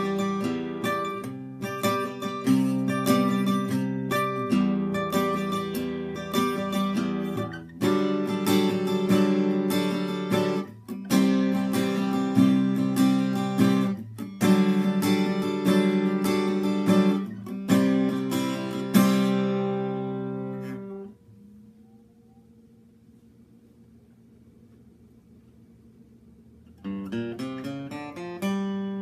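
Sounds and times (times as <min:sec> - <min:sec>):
acoustic guitar strumming chords: 0:00.0 - 0:22.0, 0:26.8 - 0:29.0.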